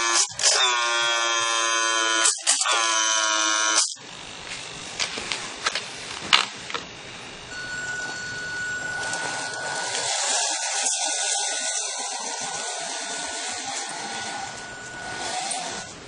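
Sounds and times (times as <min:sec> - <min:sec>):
electric motor whining: 0:00.0 - 0:04.8, 0:07.1 - 0:16.0.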